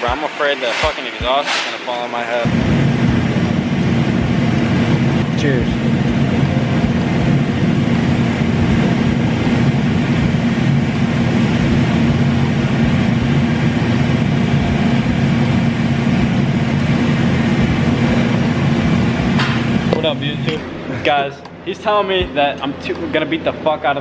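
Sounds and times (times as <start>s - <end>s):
mechanical drone with low hum: 0.0s - 24.0s.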